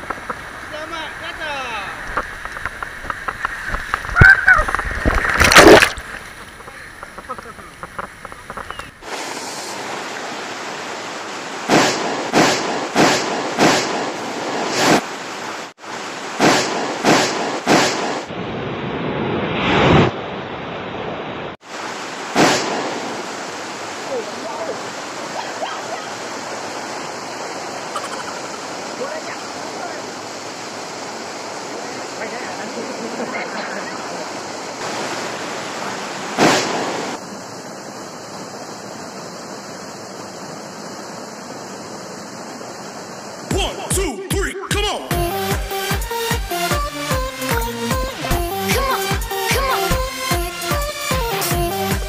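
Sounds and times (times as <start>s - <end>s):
loud rushing water: 0.0s - 18.5s, 19.9s - 52.0s.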